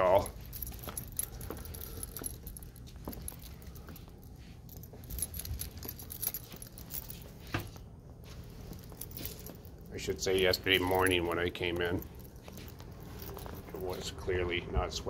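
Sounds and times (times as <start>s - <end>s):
key ring jingling: 0.0s - 14.4s.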